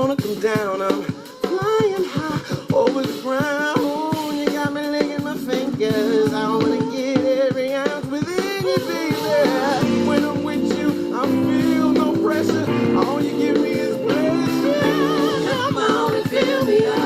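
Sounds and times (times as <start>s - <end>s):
funk band music: 0.0s - 17.0s.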